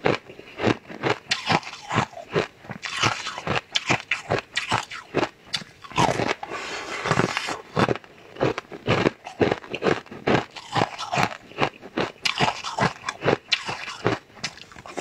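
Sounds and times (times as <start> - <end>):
person crunching hard treat: 0.0 - 15.0.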